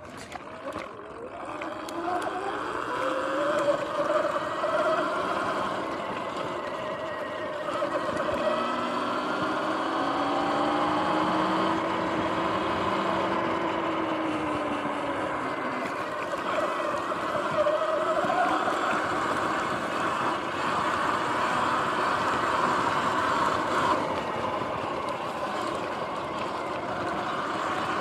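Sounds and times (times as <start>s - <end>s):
electric motor whine: 0.2s - 28.0s
wind and tyre noise: 2.0s - 28.0s.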